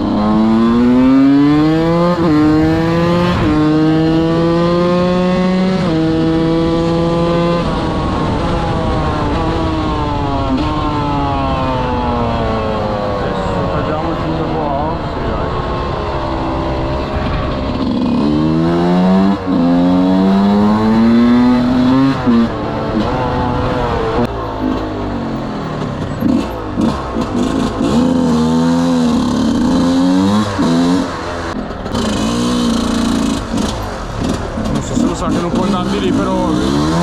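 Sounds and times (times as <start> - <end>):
two-stroke motorcycle revving: 0.0 - 37.0.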